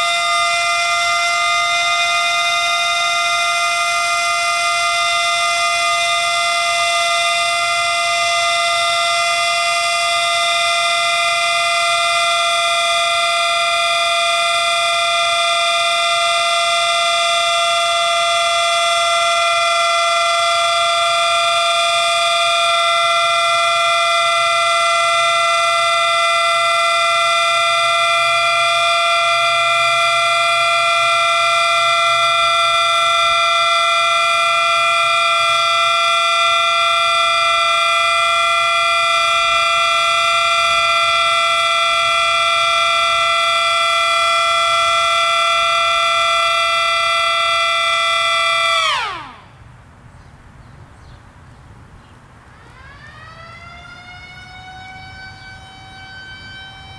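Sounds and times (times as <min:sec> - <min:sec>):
siren chord winding down: 0:00.0 - 0:49.7, 0:52.6 - 0:56.9.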